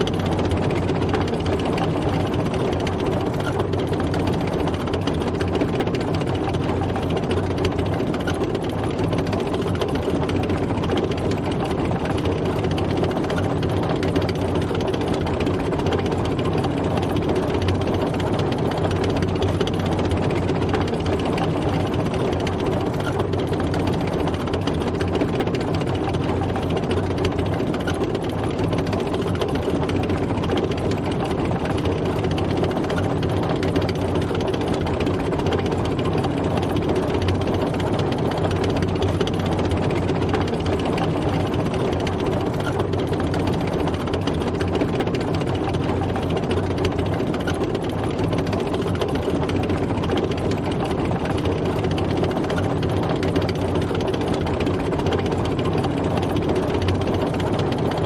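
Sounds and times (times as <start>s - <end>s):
mechanical clatter: 0.0s - 58.0s
tank engine running: 0.0s - 58.0s.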